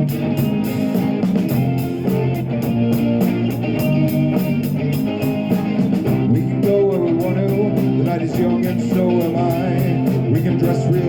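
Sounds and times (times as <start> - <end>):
electric guitar: 0.0 - 11.0
steady drum beat: 0.0 - 11.0.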